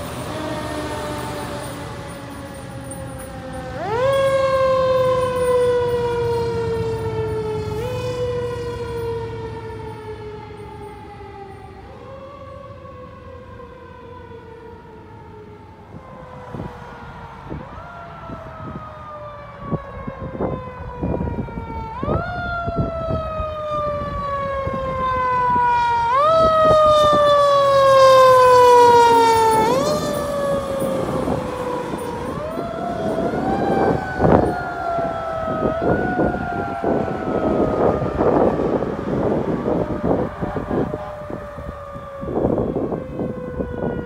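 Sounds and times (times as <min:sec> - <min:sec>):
fire engine siren wailing: 0:00.0 - 0:44.0
truck engine and road noise: 0:00.0 - 0:44.0.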